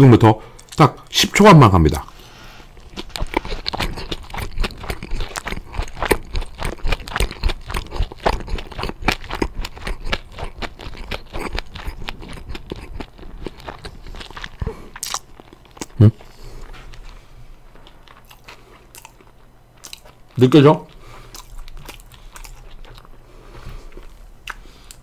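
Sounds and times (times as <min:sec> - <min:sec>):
chewing crispy fried chicken: 0:02.0 - 0:25.0.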